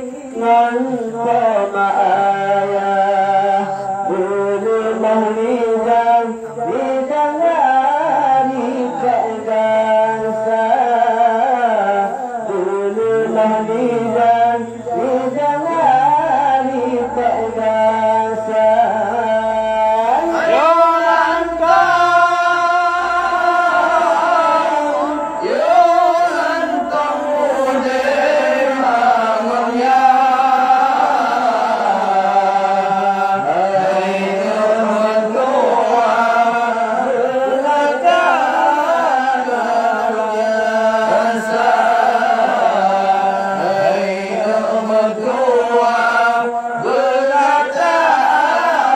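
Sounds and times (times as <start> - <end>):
men singing into microphones: 0.0 - 48.9.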